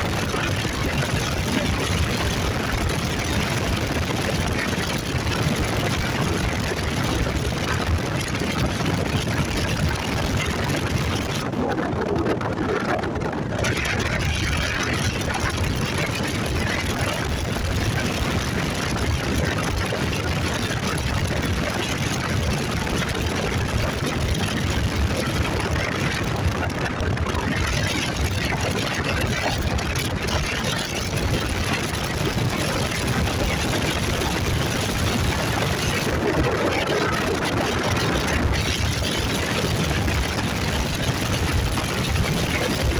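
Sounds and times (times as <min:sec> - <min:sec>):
wind rushing on microphone: 0:00.0 - 0:42.9.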